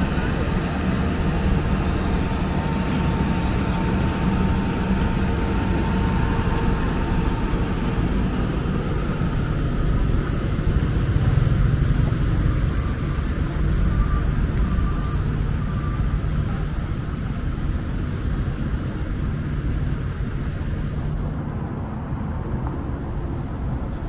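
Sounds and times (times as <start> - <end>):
diesel engines rumbling: 0.0 - 24.0
faint steady whine: 0.0 - 24.0.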